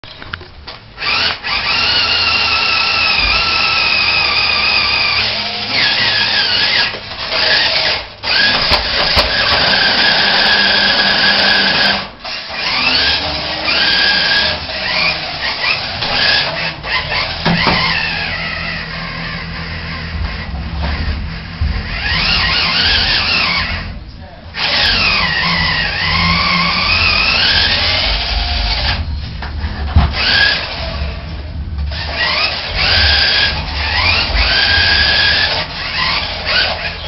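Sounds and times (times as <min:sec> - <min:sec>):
toy truck motor whining: 0:01.0 - 0:21.2, 0:21.8 - 0:23.9, 0:24.6 - 0:29.0, 0:30.2 - 0:31.2, 0:31.9 - 0:37.0.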